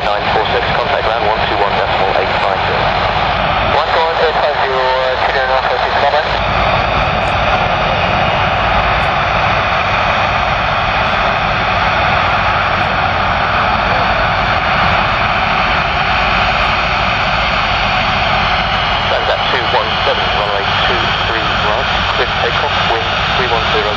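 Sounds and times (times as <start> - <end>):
jet engines roaring: 0.0 - 23.9.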